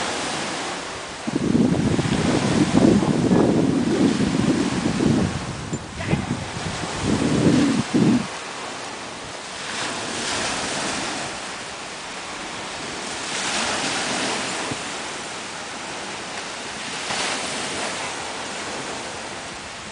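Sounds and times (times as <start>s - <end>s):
small waves washing onto sand: 0.0s - 19.9s.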